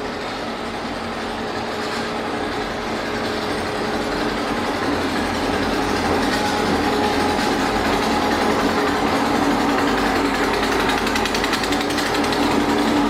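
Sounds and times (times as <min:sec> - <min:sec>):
freight train cars rattling past: 0:00.0 - 0:13.0.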